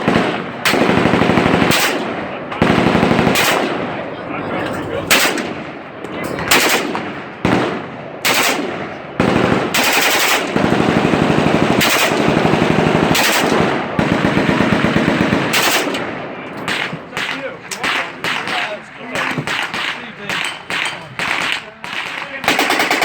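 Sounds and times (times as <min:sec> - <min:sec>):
rifle firing: 0:00.0 - 0:04.1, 0:05.1 - 0:23.0.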